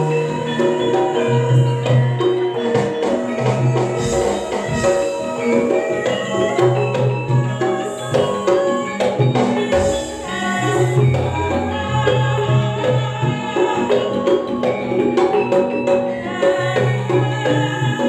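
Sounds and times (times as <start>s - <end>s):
gamelan percussion with keyboard: 0.0s - 18.0s.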